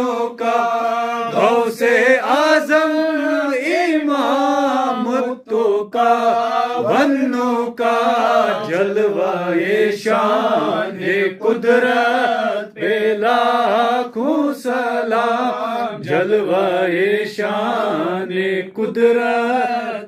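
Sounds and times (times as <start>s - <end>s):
men singing unaccompanied: 0.0s - 20.0s.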